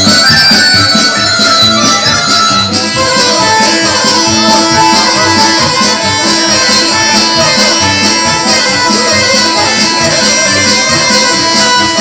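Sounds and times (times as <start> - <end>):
automatic keyboard accompaniment: 0.0 - 12.0
keyboard melody of held notes: 0.0 - 12.0.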